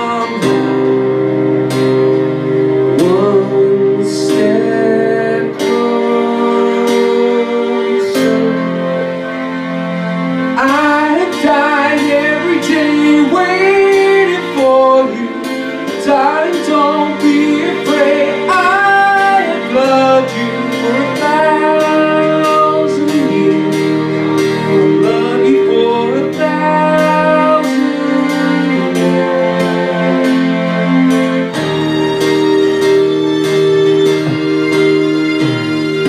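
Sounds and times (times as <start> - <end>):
man singing into a microphone: 0.0 - 1.4, 2.9 - 9.4, 10.5 - 31.4
backing track with steady beat: 0.0 - 36.0.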